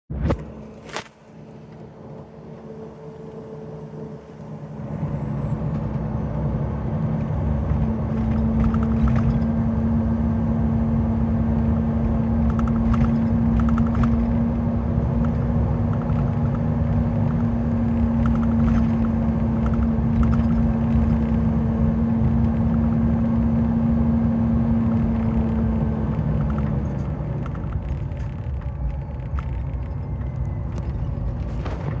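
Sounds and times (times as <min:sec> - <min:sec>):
diesel bus engine running: 0:00.1 - 0:32.0
exhaust brake drone: 0:00.2 - 0:32.0.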